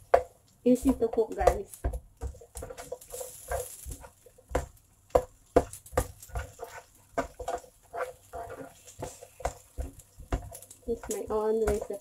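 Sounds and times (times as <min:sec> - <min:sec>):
spatula scraping a frying pan: 0:00.8 - 0:12.0.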